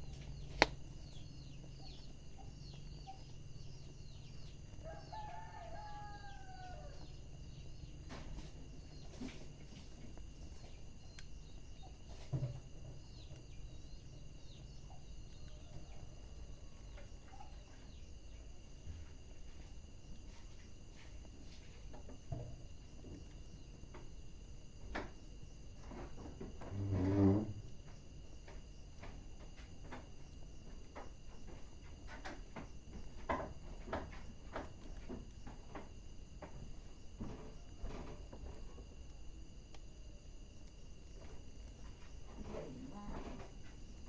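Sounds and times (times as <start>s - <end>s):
wood fire crackling and popping: 0.0s - 26.7s, 27.6s - 42.4s.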